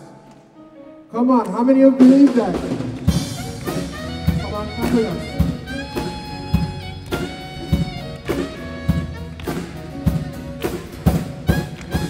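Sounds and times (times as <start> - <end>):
steady drum beat: 2.0 - 12.0.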